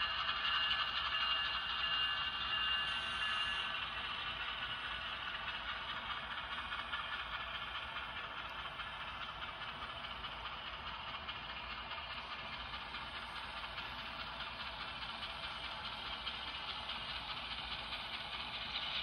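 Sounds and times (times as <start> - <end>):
locomotive engine running: 0.0 - 19.0
model train wheels clattering: 0.0 - 19.0.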